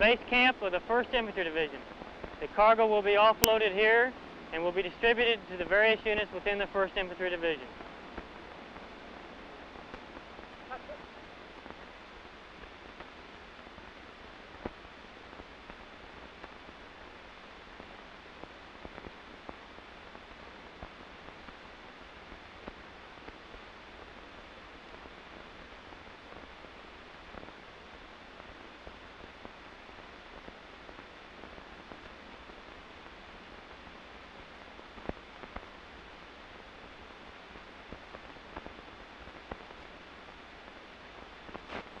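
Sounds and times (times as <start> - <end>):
tape hiss: 0.0 - 42.0
faint clicks and pops: 3.2 - 3.6, 7.6 - 42.0.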